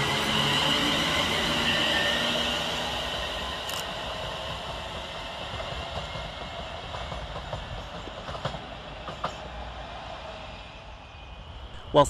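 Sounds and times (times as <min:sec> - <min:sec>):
train rail noise: 0:00.0 - 0:12.0.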